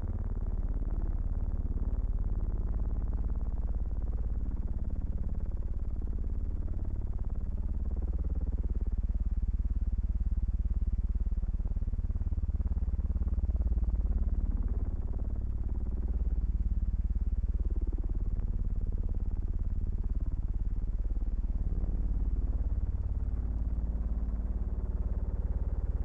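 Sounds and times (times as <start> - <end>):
low mechanical drone with flutter: 0.0 - 26.0.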